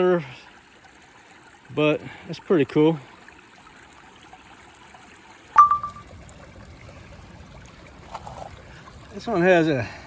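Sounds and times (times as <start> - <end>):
creek water trickling: 0.0 - 10.0.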